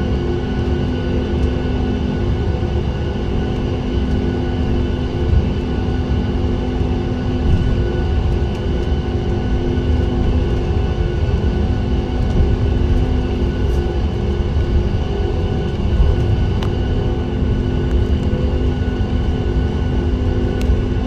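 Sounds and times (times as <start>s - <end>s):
airplane cabin rumble: 0.0s - 21.0s
jet engine hum: 0.0s - 21.0s.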